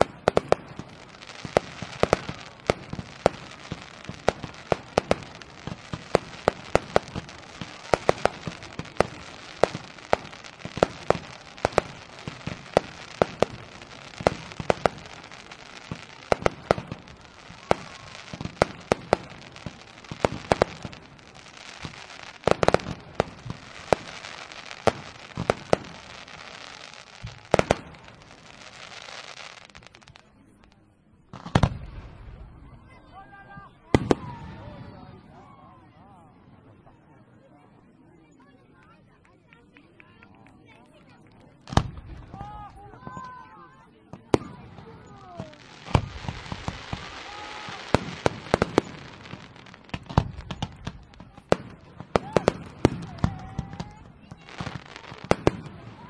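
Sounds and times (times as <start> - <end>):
fireworks crackle and hiss: 0.0 - 32.6, 41.1 - 43.6, 44.2 - 56.0
fireworks banging: 0.0 - 32.8, 33.9 - 35.1, 41.1 - 43.4, 44.1 - 56.0.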